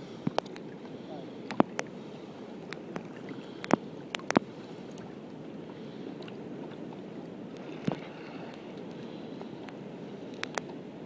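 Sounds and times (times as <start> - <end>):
water lapping around kayak: 0.0 - 11.0.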